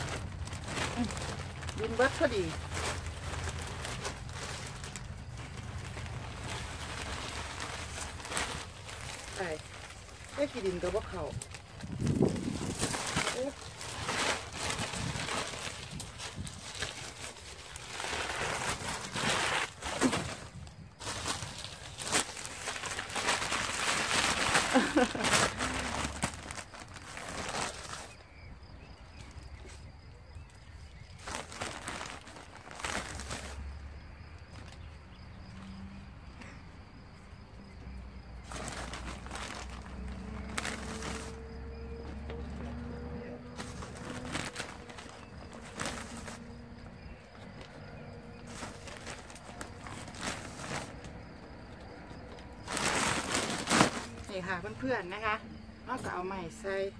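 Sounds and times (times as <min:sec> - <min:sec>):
plastic bag rustling: 0:00.0 - 0:28.3, 0:31.1 - 0:33.7, 0:38.2 - 0:55.3.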